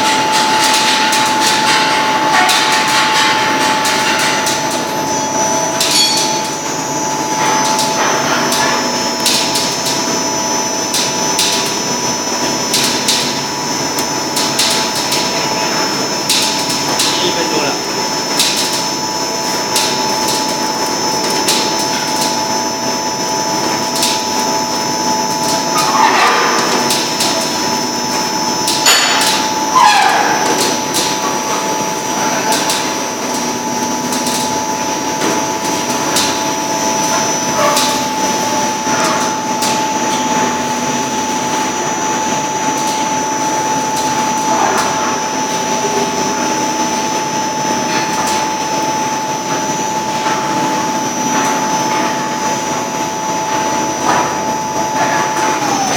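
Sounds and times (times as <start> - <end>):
machine whine: 0.0 - 55.9.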